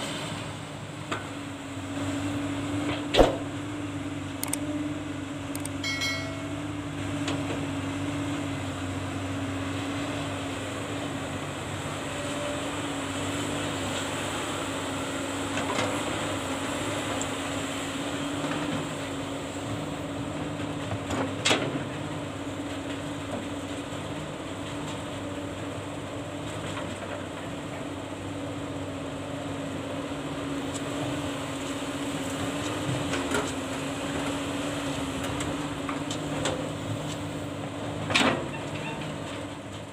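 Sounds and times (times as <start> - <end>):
excavator diesel engine droning: 0.0 - 39.9.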